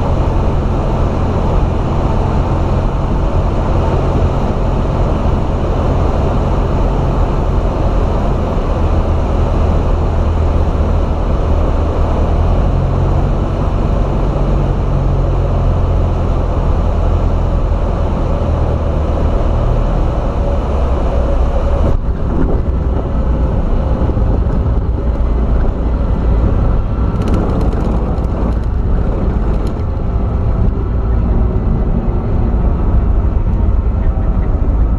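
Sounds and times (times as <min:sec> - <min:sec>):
light plane engine drone: 0:00.0 - 0:34.9.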